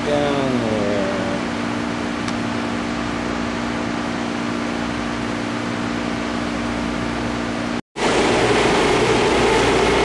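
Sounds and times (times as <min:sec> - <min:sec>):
ship machinery hum: 0:00.0 - 0:10.0.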